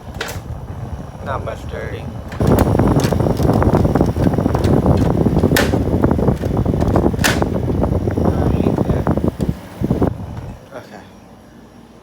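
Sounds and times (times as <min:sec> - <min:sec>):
fan wind noise on microphone: 0:00.0 - 0:12.0.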